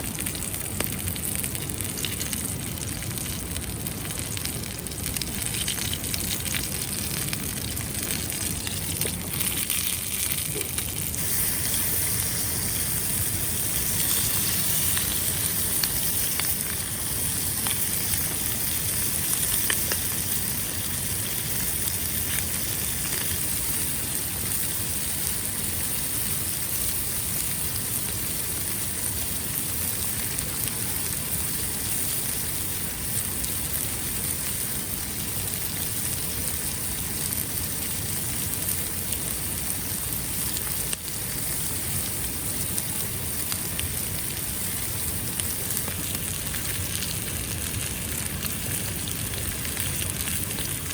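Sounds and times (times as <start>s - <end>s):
food sizzling in a skillet: 0.0s - 50.9s.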